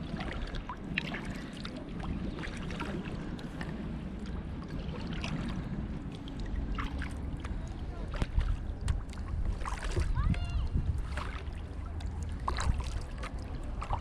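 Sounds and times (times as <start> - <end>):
paddle splashes and drips: 0.0 - 14.0
water against hull: 0.0 - 14.0
wind on microphone: 0.0 - 14.0.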